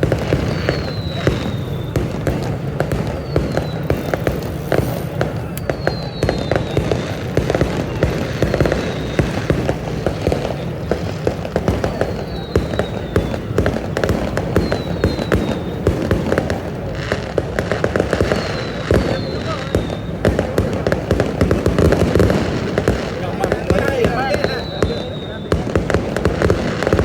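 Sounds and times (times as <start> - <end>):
fireworks bangs and crackling: 0.0 - 27.0
fireworks whistles falling in pitch: 0.0 - 27.0.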